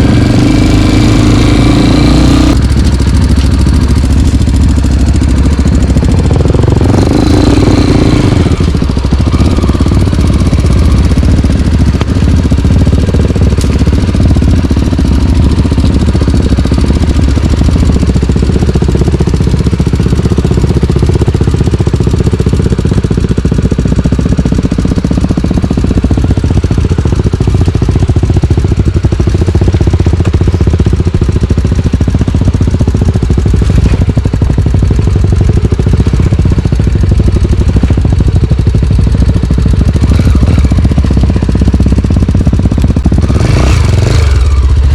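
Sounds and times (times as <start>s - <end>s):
dirt bike engine rumbling: 0.0s - 44.9s.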